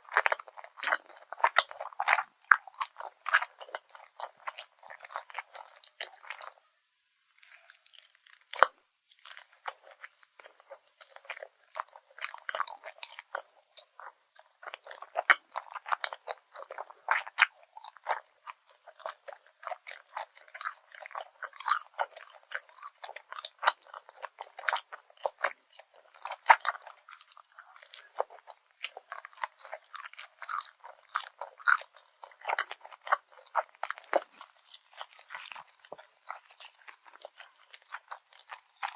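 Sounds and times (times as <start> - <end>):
chewing rice cake: 0.0 - 38.9
wet sticky mouth sounds: 7.4 - 38.9.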